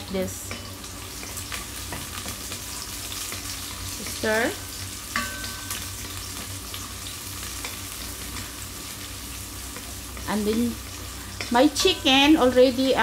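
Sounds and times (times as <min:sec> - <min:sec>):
onion and garlic sizzling: 0:00.0 - 0:13.0.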